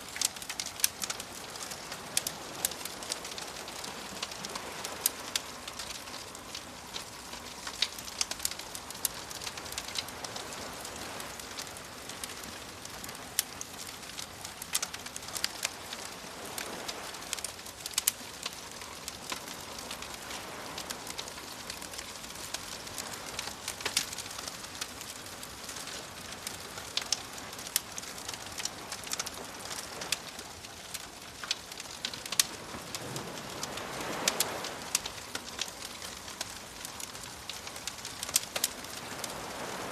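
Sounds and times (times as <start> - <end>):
campfire crackling and popping: 0.0 - 39.9
waves washing: 0.0 - 39.9.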